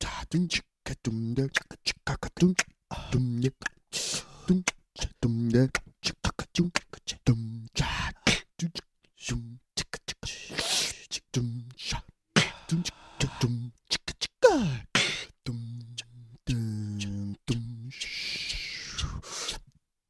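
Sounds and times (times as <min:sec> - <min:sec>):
beatboxing: 0:00.0 - 0:19.8.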